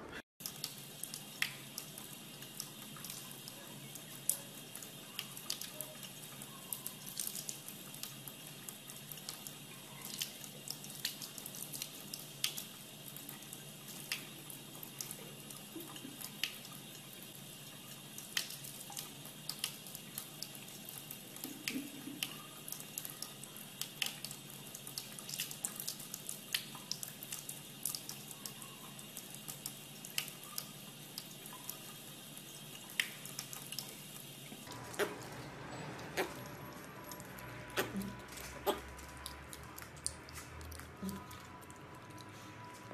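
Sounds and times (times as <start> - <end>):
sharp water drips: 0.4 - 42.9.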